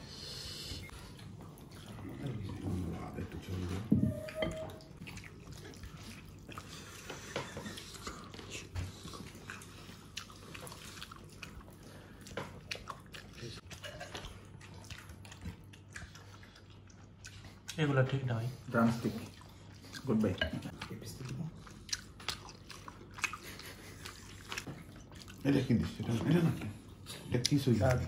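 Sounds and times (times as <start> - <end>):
person chewing food: 5.0 - 28.0.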